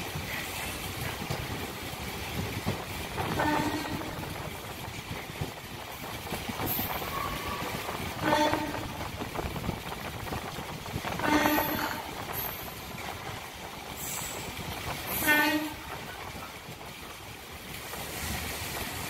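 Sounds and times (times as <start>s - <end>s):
train rumble and rattle: 0.0s - 19.0s.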